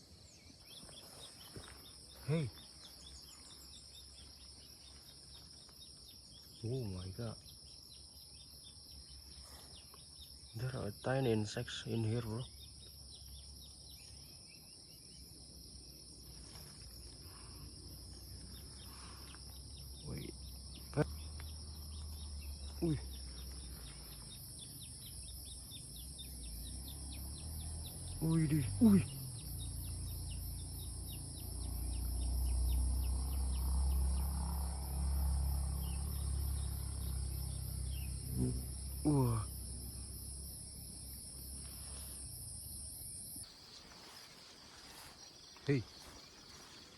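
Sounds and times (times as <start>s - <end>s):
insects droning: 0.0s - 46.9s
short insect chirps: 0.0s - 46.9s.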